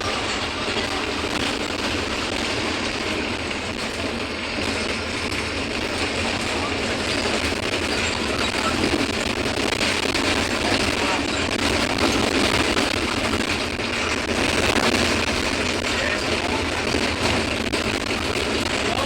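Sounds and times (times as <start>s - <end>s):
bus diesel engine running: 0.0s - 19.0s
road noise: 0.0s - 19.0s.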